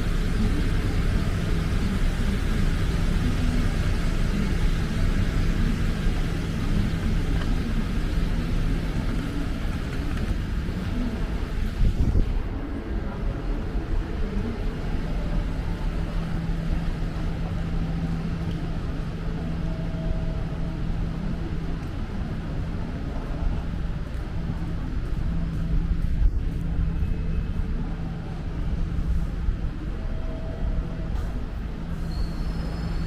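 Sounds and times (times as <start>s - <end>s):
engine-like hum: 0.0s - 33.0s
street traffic rumble: 0.0s - 33.0s.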